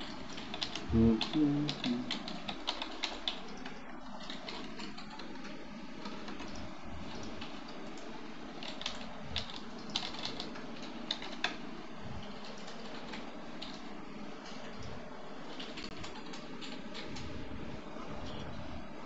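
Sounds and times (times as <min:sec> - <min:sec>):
computer keyboard typing: 0:00.0 - 0:17.4.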